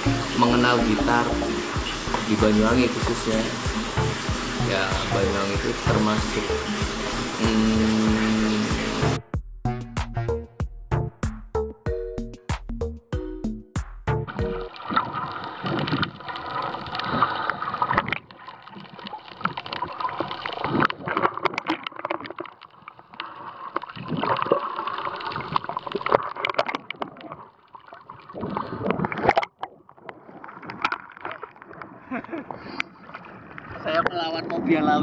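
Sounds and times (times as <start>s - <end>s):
water sloshing and gurgling: 0.0s - 9.3s, 14.2s - 35.0s.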